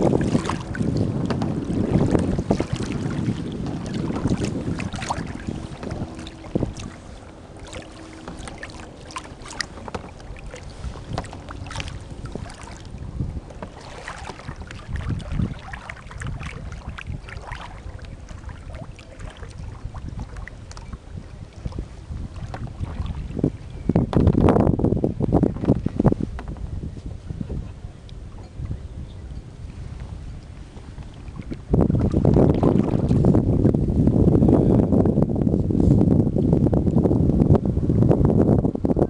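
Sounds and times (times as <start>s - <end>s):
water splashing against kayak: 0.0s - 28.8s, 29.7s - 34.3s
wind rumbling on microphone: 0.0s - 39.0s.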